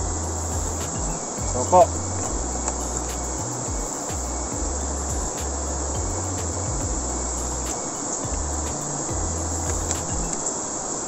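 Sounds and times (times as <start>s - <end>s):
insects droning: 0.0s - 11.0s
river rushing: 0.0s - 11.0s.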